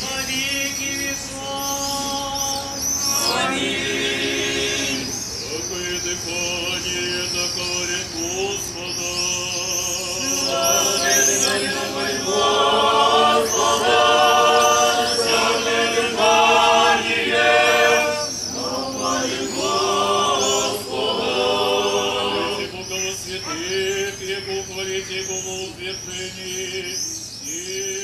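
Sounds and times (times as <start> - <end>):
choir singing chant: 0.0 - 26.5.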